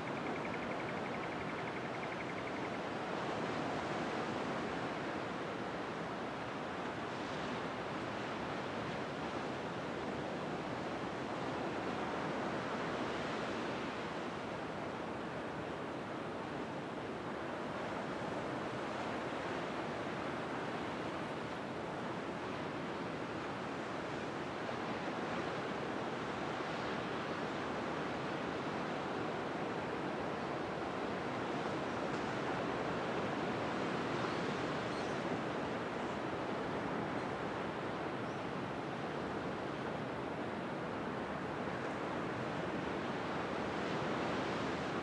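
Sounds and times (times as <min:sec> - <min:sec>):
distant surf on a beach: 0:00.0 - 0:45.0.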